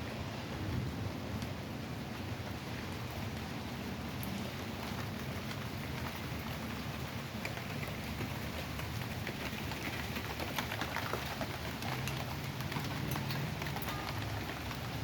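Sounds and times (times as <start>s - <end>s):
heavy rain: 0.0s - 15.0s
raindrops ticking on surfaces: 0.0s - 15.0s.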